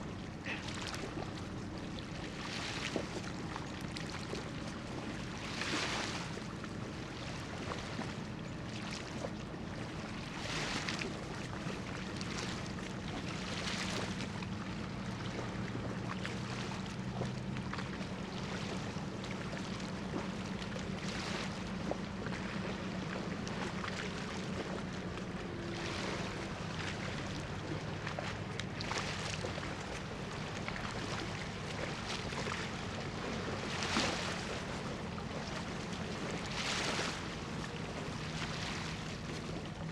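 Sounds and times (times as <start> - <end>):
ship engines droning: 0.0 - 39.9.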